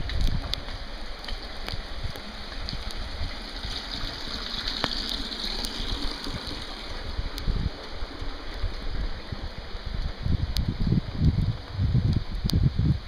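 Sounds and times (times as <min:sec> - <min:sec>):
water trickling: 0:00.0 - 0:12.2
rain falling: 0:00.0 - 0:13.0.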